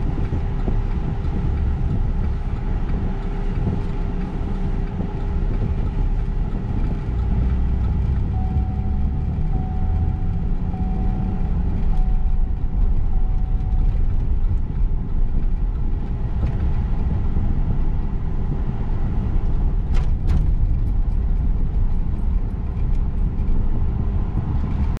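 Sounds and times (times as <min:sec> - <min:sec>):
road and engine rumble in car: 0:00.0 - 0:25.0.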